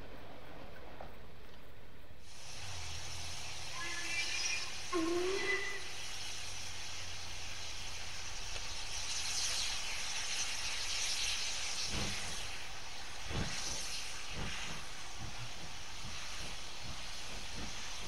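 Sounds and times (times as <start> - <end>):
steam locomotive hissing: 2.2 - 18.0.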